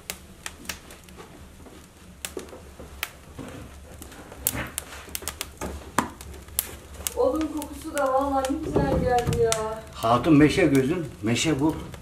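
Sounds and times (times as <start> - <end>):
logs crackling in fireplace: 0.0 - 12.0.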